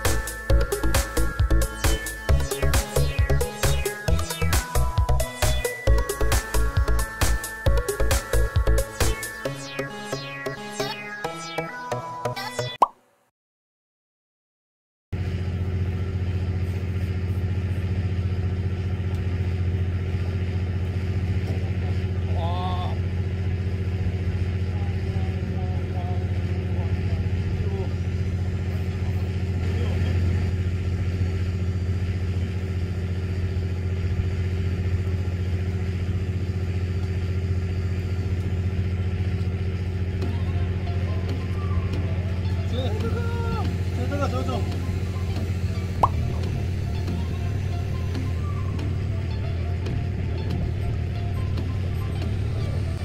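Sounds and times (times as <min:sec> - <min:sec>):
boat engine humming: 0:00.0 - 0:09.6, 0:15.2 - 0:53.0.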